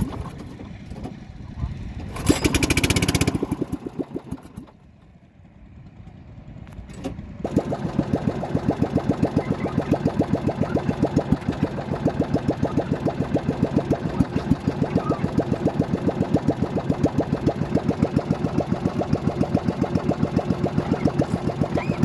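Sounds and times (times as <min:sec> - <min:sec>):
boat engine puttering: 0:00.0 - 0:05.2, 0:06.8 - 0:22.0.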